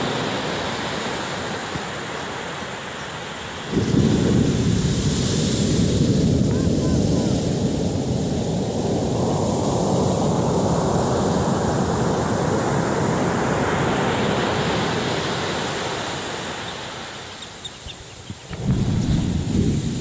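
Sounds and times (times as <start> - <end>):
stormy wind: 0.0 - 20.0
surf roaring: 0.0 - 20.0.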